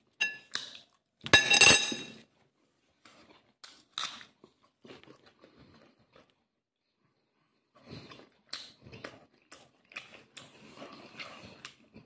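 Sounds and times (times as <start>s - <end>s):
man chewing food: 2.2s - 12.0s.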